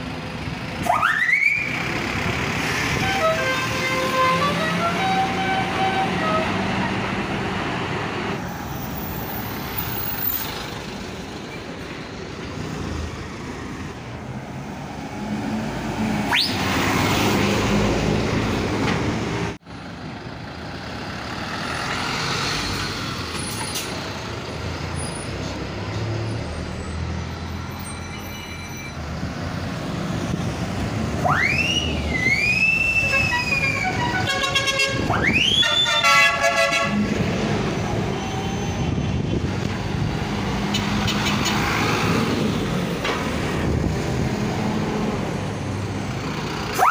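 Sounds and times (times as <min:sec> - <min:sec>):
buses driving past: 0:00.0 - 0:46.9.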